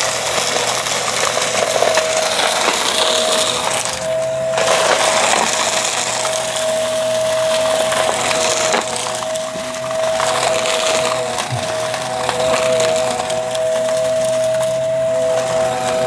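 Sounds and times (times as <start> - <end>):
debris crackling and popping: 0.0 - 16.0
vacuum cleaner whining: 0.0 - 16.0.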